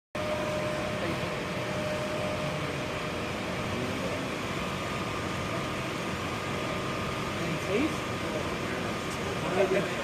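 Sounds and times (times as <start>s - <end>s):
furnace blower rushing hum: 0.2s - 10.0s.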